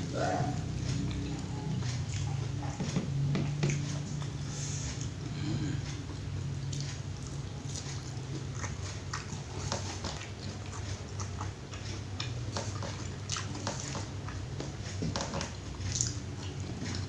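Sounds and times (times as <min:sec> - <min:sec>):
person chewing food: 0:00.0 - 0:17.0
steady low hum: 0:00.0 - 0:17.0.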